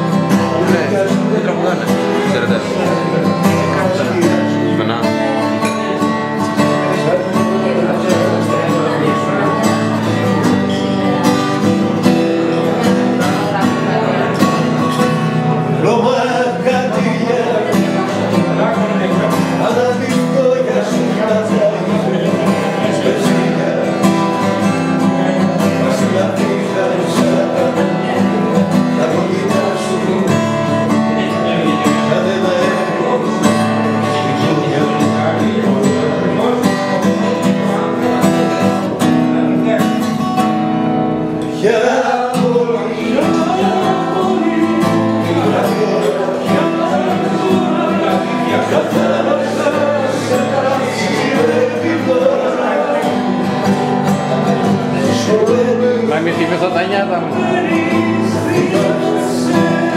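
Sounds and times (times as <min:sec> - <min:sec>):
person singing: 0:00.0 - 0:40.2, 0:41.4 - 0:59.9
acoustic guitar: 0:00.0 - 0:59.9.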